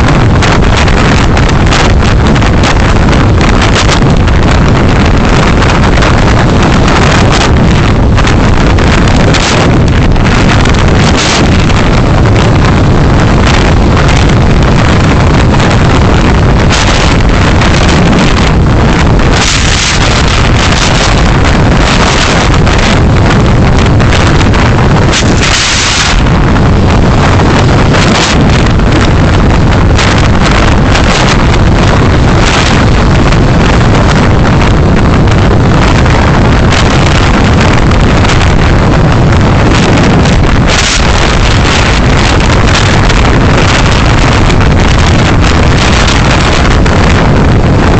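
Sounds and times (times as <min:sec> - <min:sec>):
wind and road noise: 0:00.0 - 0:47.9.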